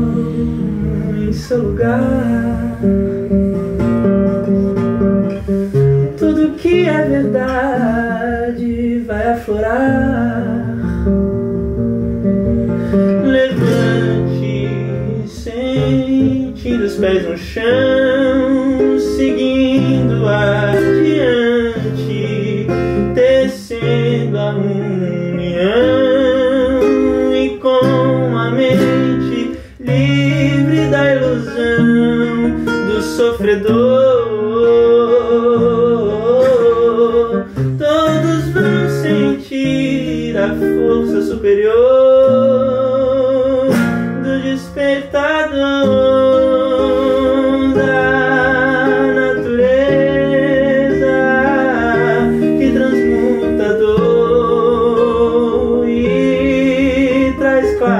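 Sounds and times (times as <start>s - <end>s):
man singing: 0.0s - 11.5s, 12.2s - 57.9s
acoustic guitar chords: 0.0s - 57.9s.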